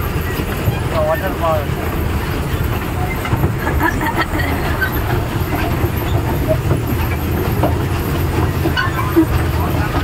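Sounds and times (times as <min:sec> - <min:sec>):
toy train rumbling on track: 0:00.0 - 0:10.0.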